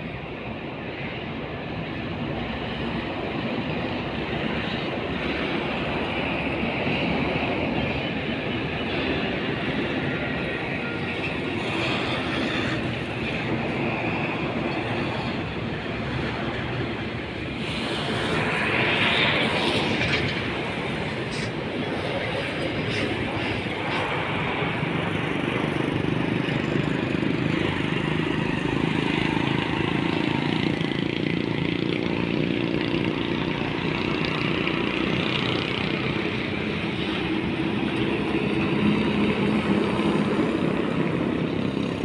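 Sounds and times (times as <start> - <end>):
road and wind noise: 0.0 - 42.0.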